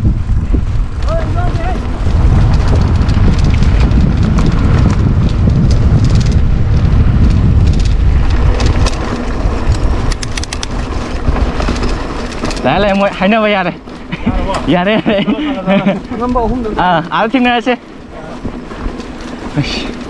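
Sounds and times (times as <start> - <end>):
bike clicks and rattles: 0.0 - 20.0
bike tyres rumbling on dirt: 0.0 - 20.0
wind rushing over microphone: 0.0 - 20.0.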